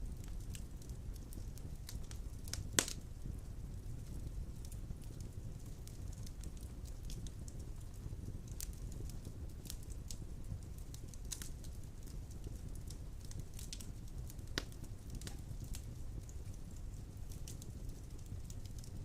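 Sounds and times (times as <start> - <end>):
fire pops and snaps: 0.0 - 19.0
low rumble of burning: 0.0 - 19.0.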